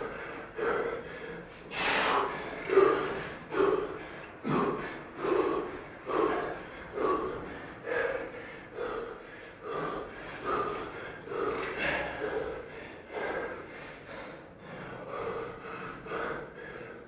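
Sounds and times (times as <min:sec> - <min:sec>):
man breathing hard: 0:00.0 - 0:17.0.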